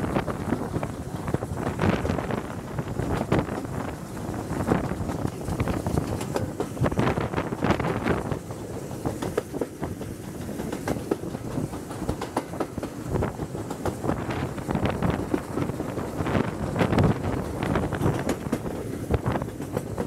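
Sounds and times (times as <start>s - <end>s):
steam train running: 0.0s - 20.0s
wind buffeting microphone: 0.0s - 20.0s.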